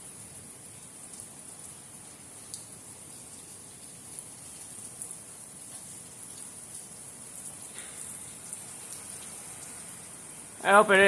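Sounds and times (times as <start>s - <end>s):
raindrops ticking on a surface: 0.0s - 11.0s
steady rain: 0.0s - 11.0s.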